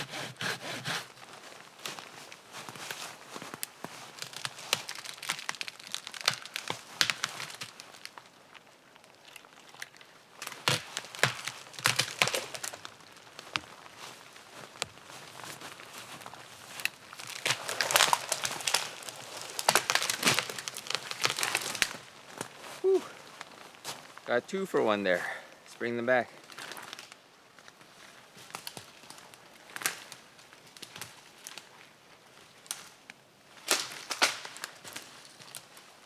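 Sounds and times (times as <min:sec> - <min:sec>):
dry wood cracking and snapping: 0:01.8 - 0:24.3, 0:26.4 - 0:27.8, 0:28.4 - 0:35.8.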